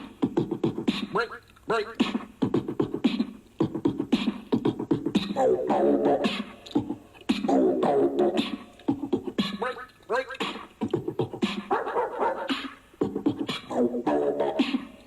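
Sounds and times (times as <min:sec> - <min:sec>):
buzzing vocal effects: 0:00.0 - 0:11.8, 0:12.4 - 0:15.0
beatbox drum beat: 0:00.0 - 0:15.0.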